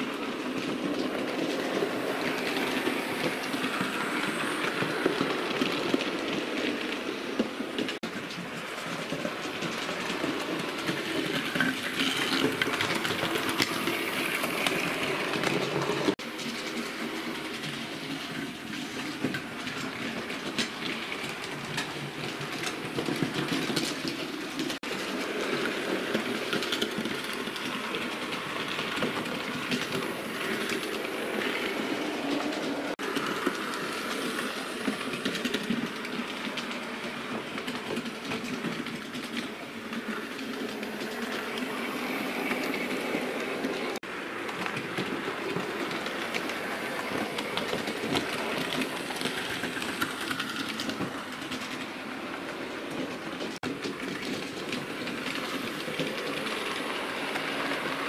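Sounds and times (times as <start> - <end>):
wheels clicking over rail joints: 0.0 - 58.0.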